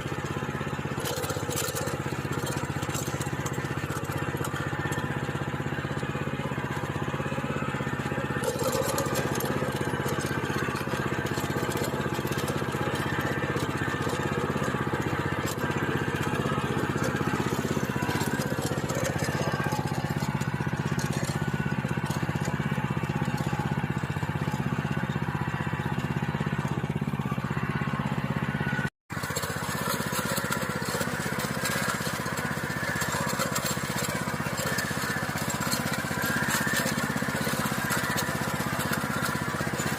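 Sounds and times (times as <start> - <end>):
small tiller engine running: 0.0 - 39.9.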